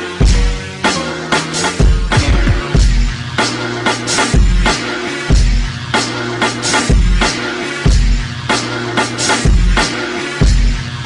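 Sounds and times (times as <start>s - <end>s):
hip hop beat: 0.0s - 11.0s.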